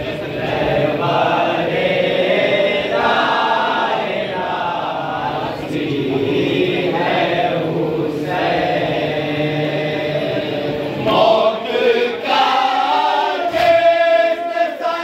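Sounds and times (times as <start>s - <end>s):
men chanting in chorus: 0.0s - 15.0s.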